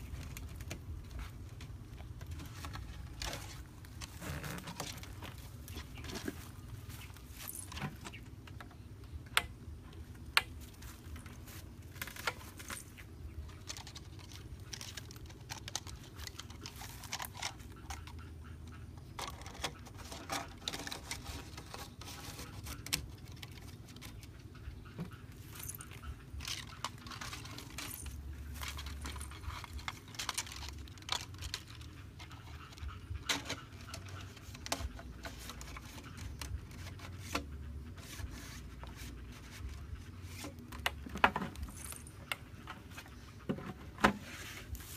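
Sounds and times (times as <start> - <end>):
plastic pipe clicking and scraping: 0.0 - 44.9.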